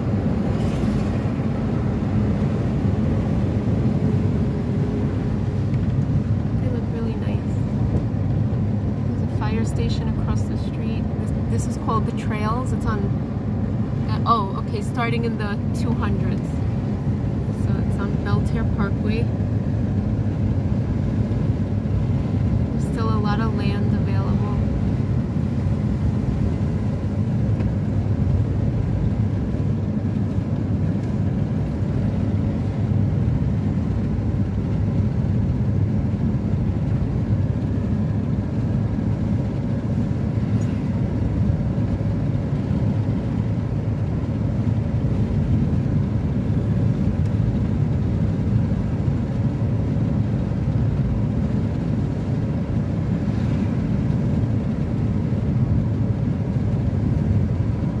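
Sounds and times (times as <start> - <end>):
car cabin road and engine rumble: 0.0 - 58.0.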